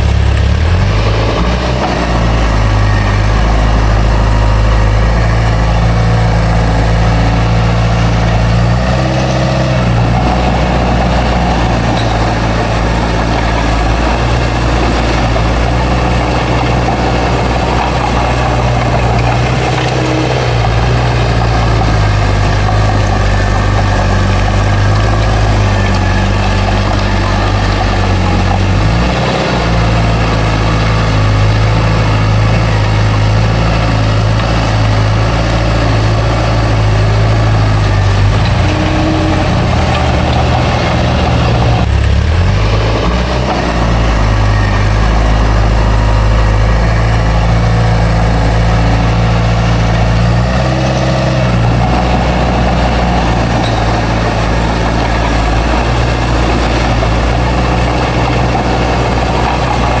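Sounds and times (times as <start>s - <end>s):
bulldozer diesel engine: 0.0s - 60.0s.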